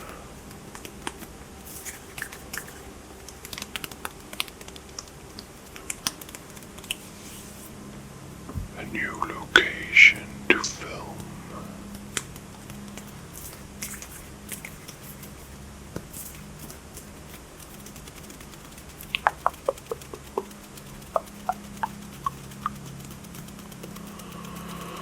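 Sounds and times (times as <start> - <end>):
steady low hum: 0.0 - 25.0
hands rustling: 0.5 - 4.8, 6.2 - 7.8, 8.6 - 25.0.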